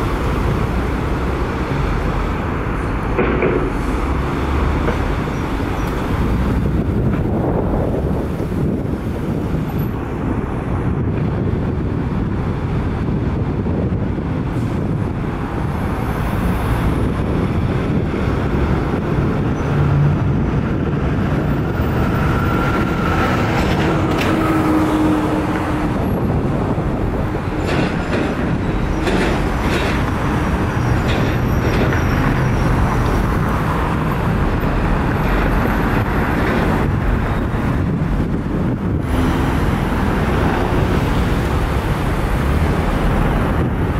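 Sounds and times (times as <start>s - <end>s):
heavy vehicle rumble: 0.0s - 43.9s.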